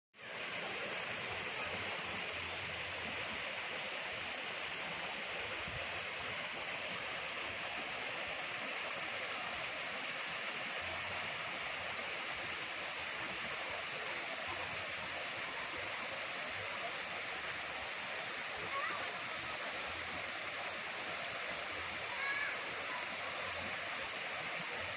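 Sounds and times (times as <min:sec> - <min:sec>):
waterfall rushing: 0:00.2 - 0:24.9.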